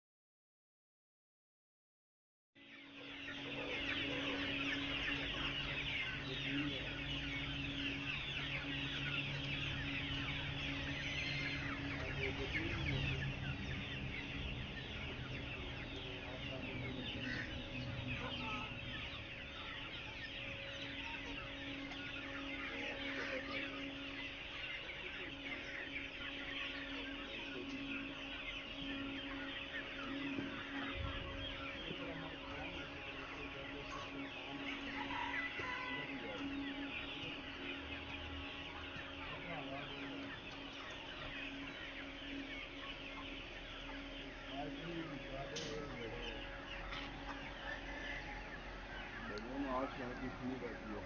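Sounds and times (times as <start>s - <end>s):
chicks peeping: 2.6s - 51.0s
steady low hum: 2.7s - 51.0s.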